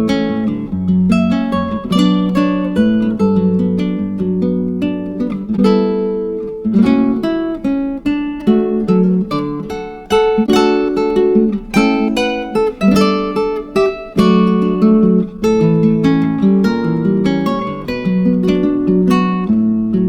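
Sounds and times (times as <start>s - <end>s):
acoustic guitar picking melody: 0.0s - 20.0s.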